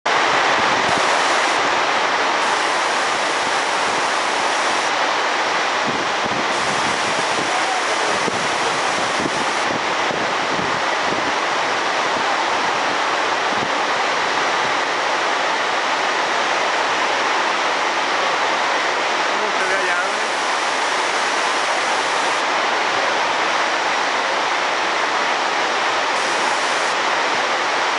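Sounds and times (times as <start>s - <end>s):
torrential rain pouring: 0.1s - 27.9s.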